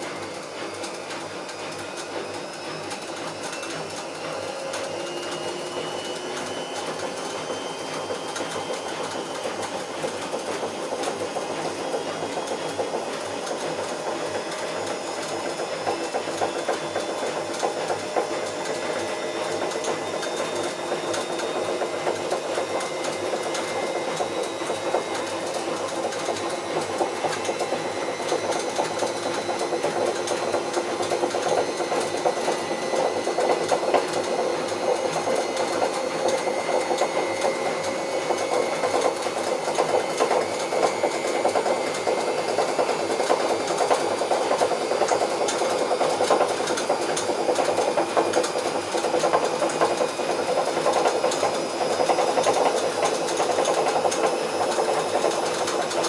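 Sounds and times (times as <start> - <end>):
washing machine drum clattering: 0.0 - 56.0.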